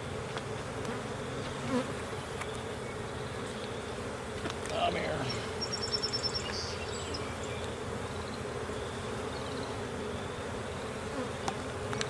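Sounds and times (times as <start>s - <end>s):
bees buzzing around hive: 0.0s - 12.0s.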